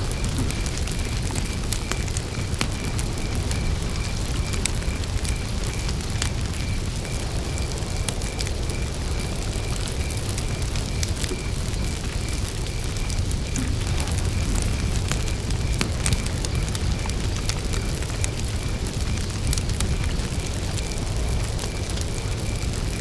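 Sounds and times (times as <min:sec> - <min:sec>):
cricket chirping: 0:00.0 - 0:23.0
wood fire crackling: 0:00.0 - 0:23.0.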